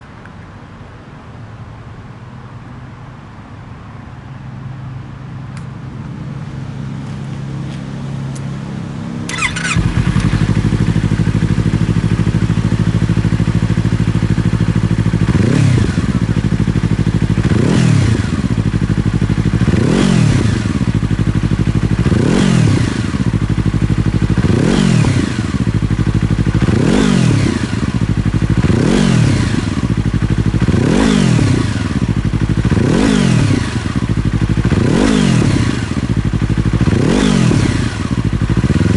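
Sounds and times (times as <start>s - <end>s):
motorcycle engine starting and idling: 5.5s - 38.9s
motorcycle engine revving: 6.0s - 38.9s.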